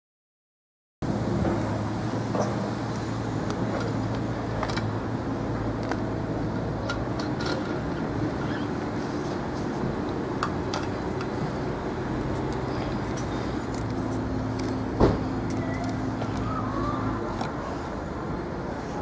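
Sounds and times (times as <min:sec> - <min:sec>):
vehicle mechanical hum: 0:01.0 - 0:19.0.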